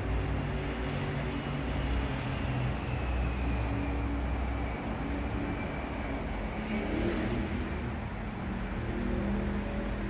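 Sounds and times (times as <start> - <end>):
electric train rumbling past: 0.0 - 10.0.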